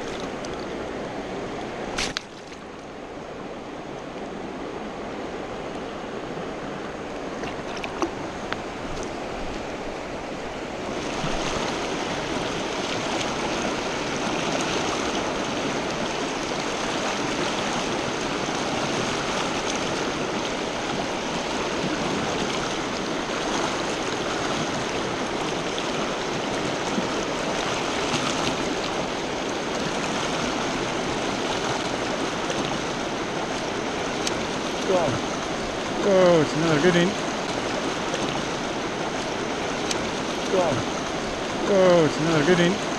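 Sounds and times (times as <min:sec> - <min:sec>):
stream rushing over stones: 0:00.0 - 0:42.9.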